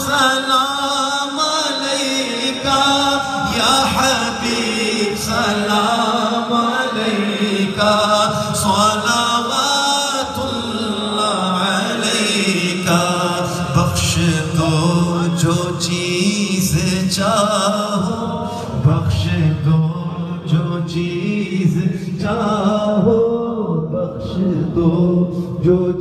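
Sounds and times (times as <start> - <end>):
man chanting devotional song: 0.0 - 26.0.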